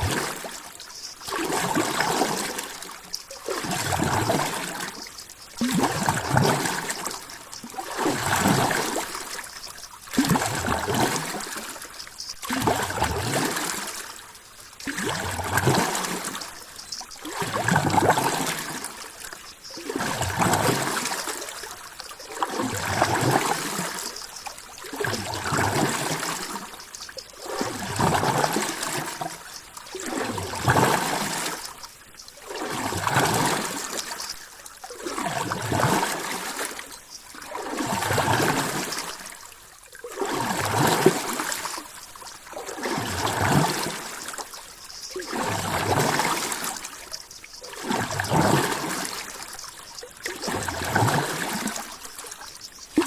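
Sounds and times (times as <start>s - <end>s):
rushing trickling water: 0.0s - 53.0s.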